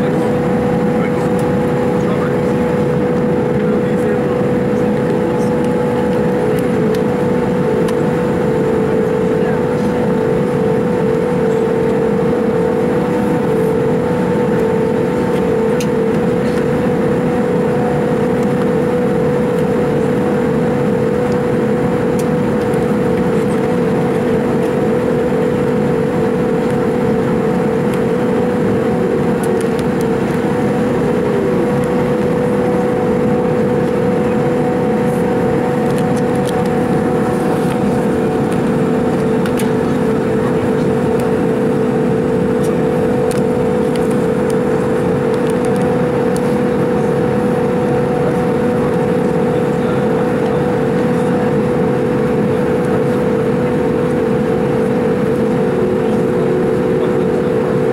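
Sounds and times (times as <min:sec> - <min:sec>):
airliner cabin engine drone: 0:00.0 - 0:57.9
low hum: 0:00.0 - 0:57.9.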